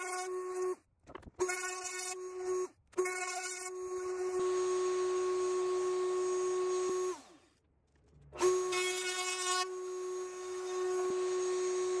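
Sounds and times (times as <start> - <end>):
router high whine: 1.4 - 7.5, 8.4 - 12.0.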